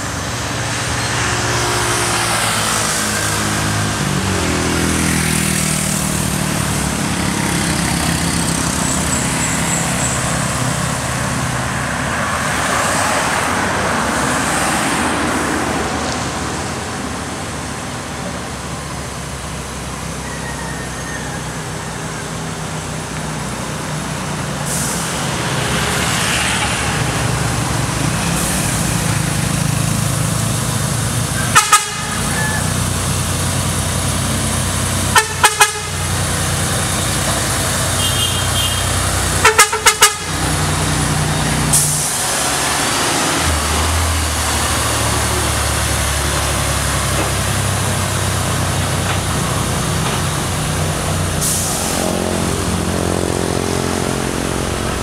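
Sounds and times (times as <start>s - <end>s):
truck diesel engine rumble: 0.0s - 55.0s.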